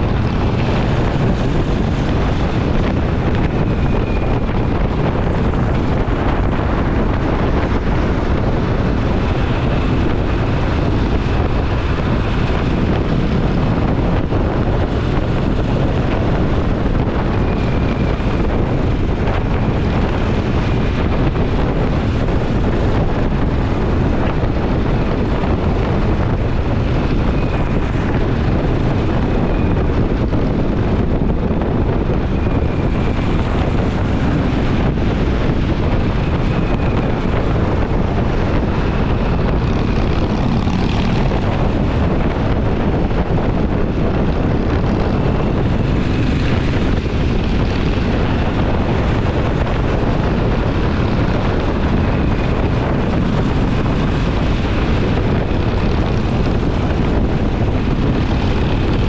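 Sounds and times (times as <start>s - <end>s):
motorcycle engine cruising: 0.0s - 59.0s
wind buffeting microphone: 0.0s - 59.0s.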